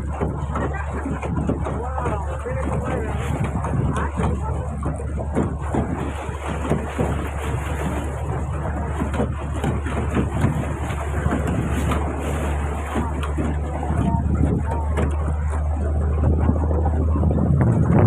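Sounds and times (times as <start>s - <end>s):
boat engine hum: 0.0s - 18.0s
lake water splashing: 0.0s - 18.0s
wind on microphone: 0.0s - 18.0s.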